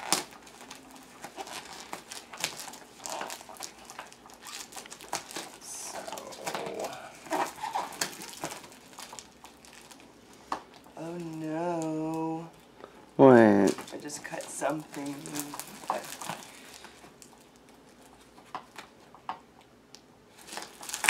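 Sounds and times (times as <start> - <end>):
packing tape crinkling and tearing: 0.0 - 10.1, 10.7 - 12.5, 13.6 - 18.9, 20.3 - 21.0.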